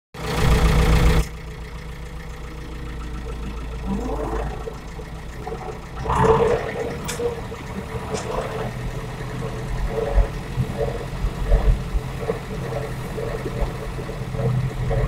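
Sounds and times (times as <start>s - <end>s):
tractor diesel engine running: 0.2s - 15.0s
short rising whine: 2.5s - 15.0s.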